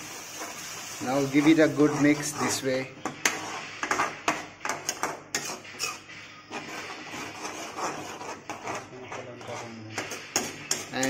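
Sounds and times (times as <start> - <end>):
metal spatula scraping pan: 0.0 - 11.0.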